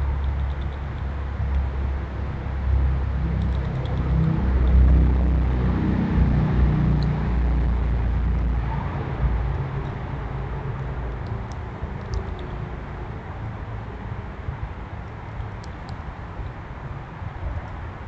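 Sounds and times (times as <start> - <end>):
vehicle engine rumble passing: 0.0 - 18.0.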